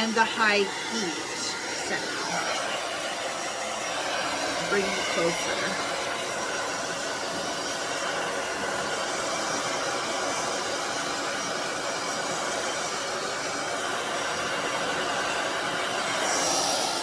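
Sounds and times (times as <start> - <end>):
blow dryer running: 0.0 - 17.0.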